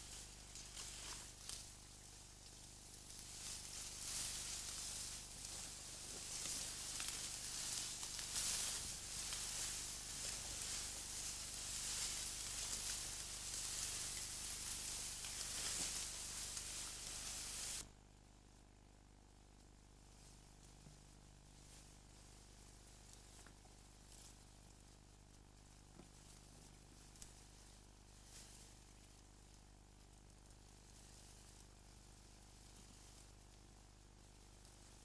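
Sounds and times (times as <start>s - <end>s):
tall grass rustling: 0.0s - 17.8s, 19.8s - 35.0s.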